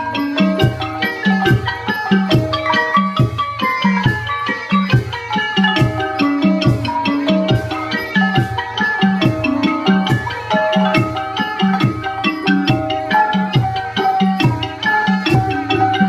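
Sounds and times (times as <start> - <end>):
mallet percussion runs: 0.0 - 16.0.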